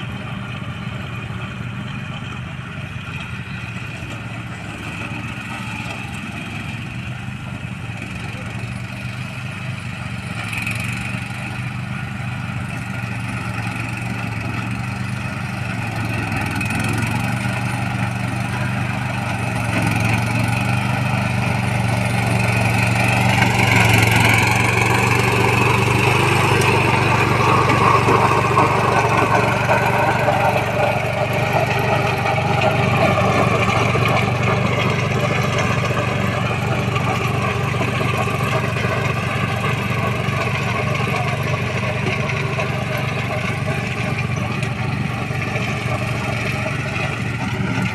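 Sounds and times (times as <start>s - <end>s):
mini tractor engine running: 0.0s - 47.9s.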